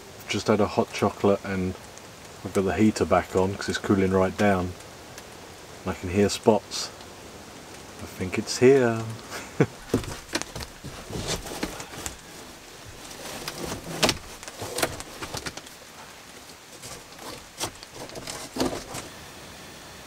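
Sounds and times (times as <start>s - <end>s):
raindrops tapping on cardboard roof: 0.0s - 19.1s
faint steady hiss: 0.0s - 20.0s.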